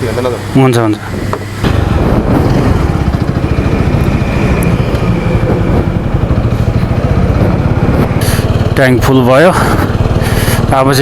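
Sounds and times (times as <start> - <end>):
motorcycle engine idling: 1.2 - 11.0.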